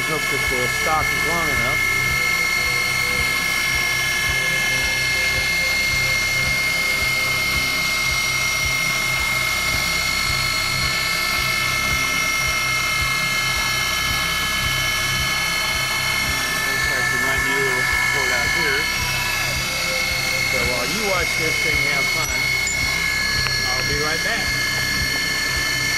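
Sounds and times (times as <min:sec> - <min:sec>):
mill spindle high whine: 0:00.0 - 0:25.9.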